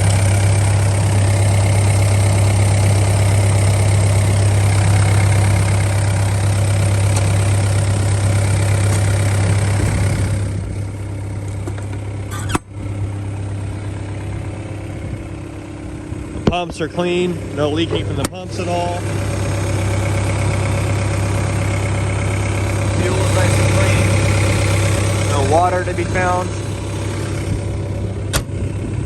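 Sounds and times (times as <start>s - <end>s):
excavator diesel engine idling: 0.0s - 29.0s.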